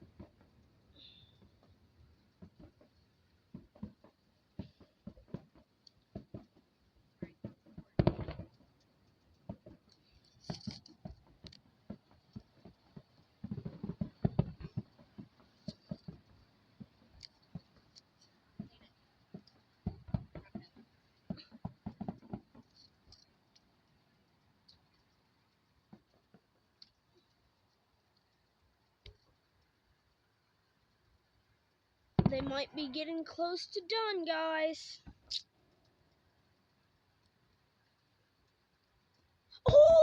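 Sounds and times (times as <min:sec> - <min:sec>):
distant fireworks pops and bangs: 0:00.0 - 0:40.0.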